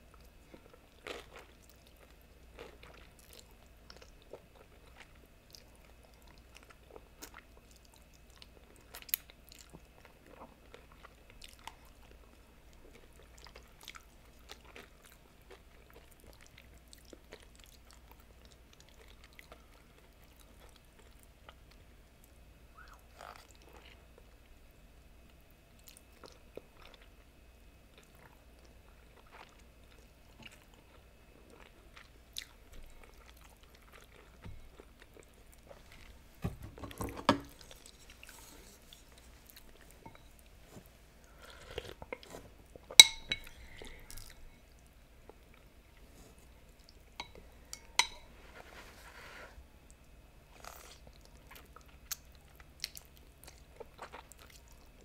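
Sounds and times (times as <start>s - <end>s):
soft chewing: 0.0s - 55.0s.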